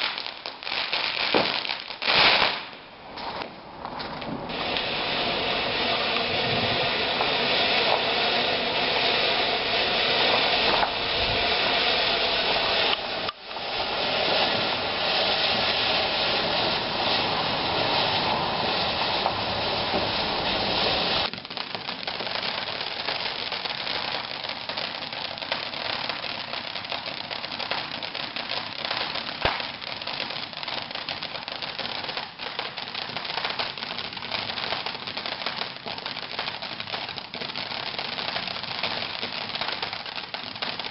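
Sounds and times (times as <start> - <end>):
firework crackling: 0.0 - 40.9
firework hissing: 0.0 - 40.9.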